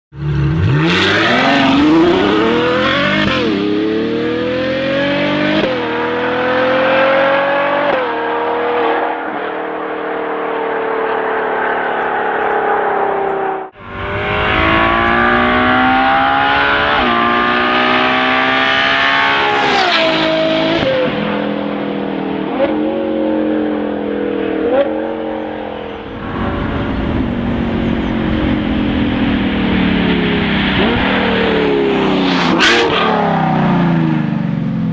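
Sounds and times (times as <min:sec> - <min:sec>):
car engine accelerating with upshifts: 0:00.2 - 0:34.9.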